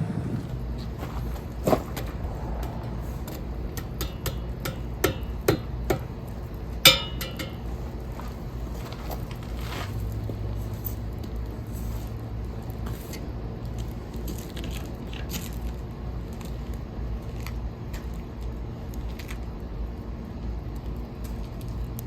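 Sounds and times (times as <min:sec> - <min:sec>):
low fire rumble: 0:00.0 - 0:22.0.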